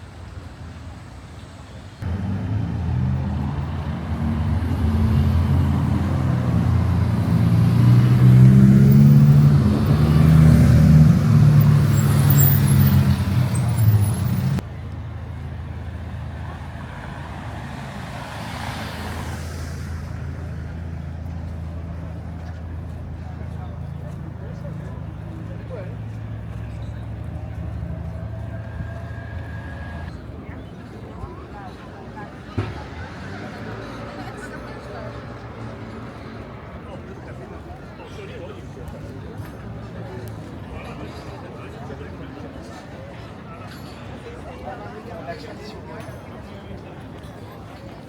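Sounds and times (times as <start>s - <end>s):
street traffic noise: 0.0s - 48.0s.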